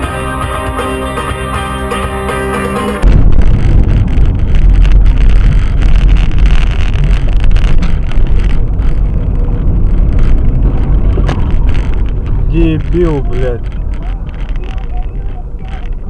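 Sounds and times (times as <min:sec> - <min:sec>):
car rumble: 0:00.0 - 0:16.0
wind buffeting microphone: 0:03.0 - 0:16.0.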